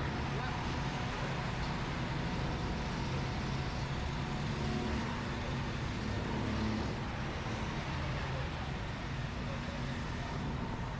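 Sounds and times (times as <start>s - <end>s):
go-kart engine running: 0.0s - 10.3s.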